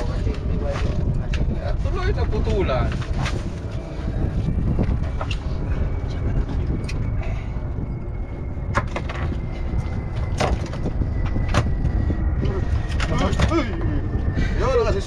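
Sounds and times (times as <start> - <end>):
fishing boat engine rumble: 0.0 - 15.0.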